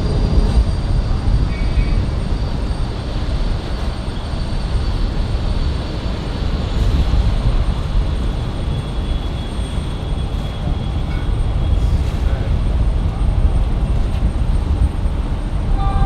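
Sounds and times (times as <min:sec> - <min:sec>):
high engine whine: 0:00.0 - 0:16.0
jet engines roaring: 0:00.0 - 0:16.0.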